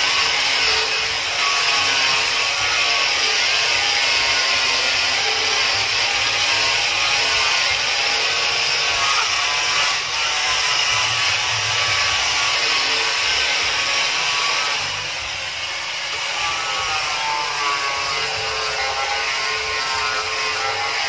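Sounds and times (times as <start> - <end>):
angle grinder sanding wood: 0.0 - 21.0.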